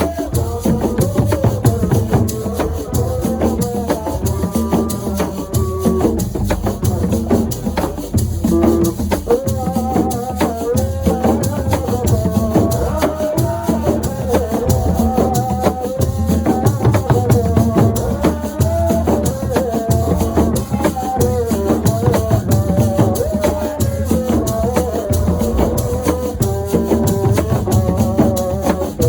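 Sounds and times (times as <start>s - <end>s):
percussion music with rattles and drums: 0.0s - 29.0s.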